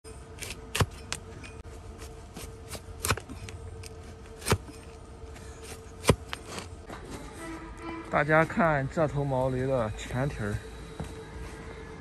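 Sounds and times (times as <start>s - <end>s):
faint hum: 0.1s - 12.0s.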